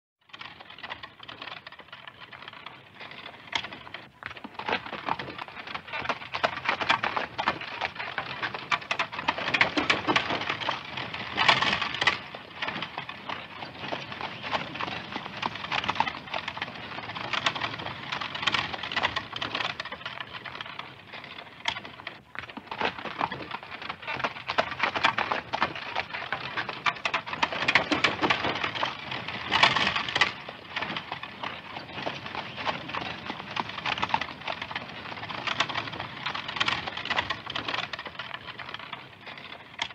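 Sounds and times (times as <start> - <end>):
buggy wooden clatter and rattle: 0.2 - 39.9
horse hooves clip-clopping: 0.4 - 39.9.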